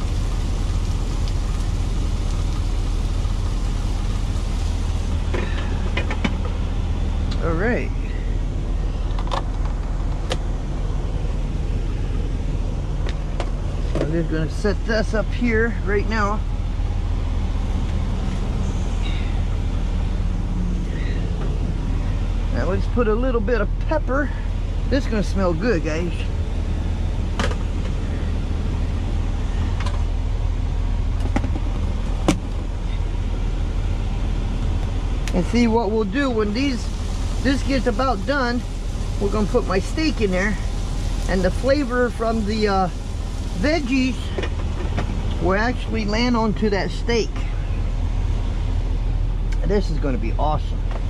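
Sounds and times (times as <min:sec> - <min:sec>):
diesel engine idling: 0:00.0 - 0:51.0.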